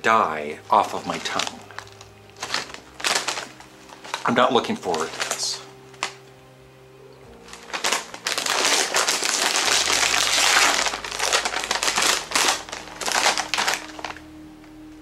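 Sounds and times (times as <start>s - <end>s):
chip bag crinkling: 0.7s - 6.2s, 7.4s - 14.3s.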